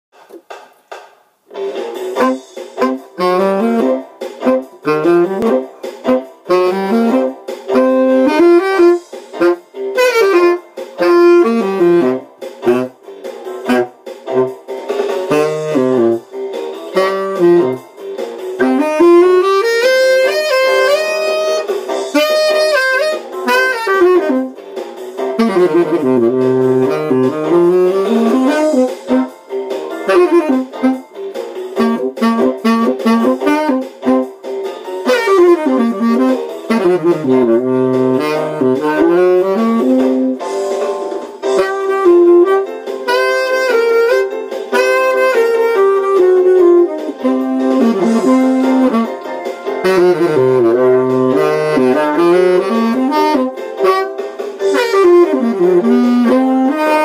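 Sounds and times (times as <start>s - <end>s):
tenor saxophone jazz melody: 1.6s - 57.0s.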